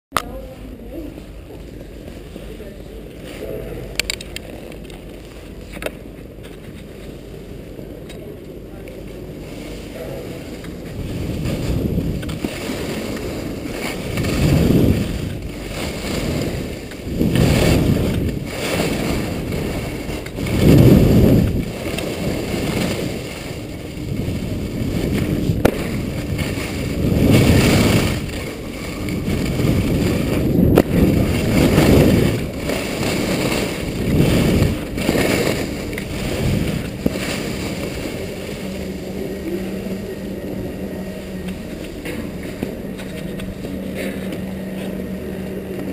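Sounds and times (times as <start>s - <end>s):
skis scraping over snow: 0.4s - 45.9s
wind rushing over microphone: 6.9s - 45.9s.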